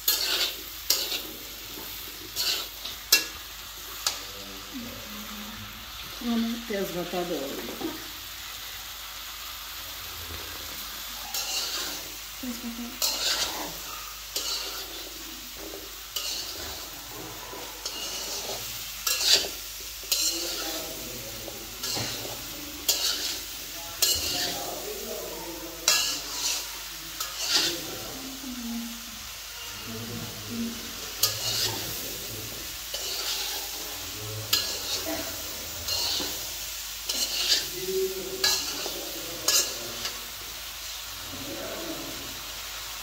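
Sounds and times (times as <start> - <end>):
spatula scraping pan: 0.0 - 4.7, 10.2 - 42.2
food sizzling in a frying pan: 0.0 - 43.0.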